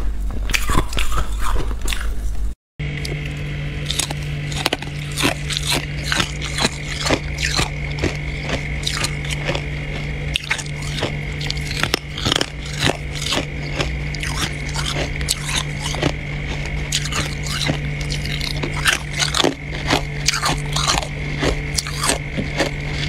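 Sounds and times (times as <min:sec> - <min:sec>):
steady hum: 0:00.0 - 0:23.0
crunching frost: 0:03.0 - 0:23.0.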